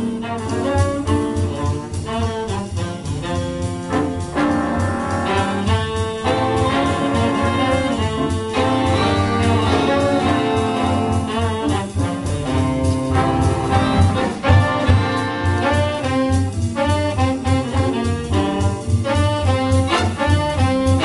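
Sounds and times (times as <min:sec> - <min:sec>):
jazz big band playing: 0:00.0 - 0:21.0.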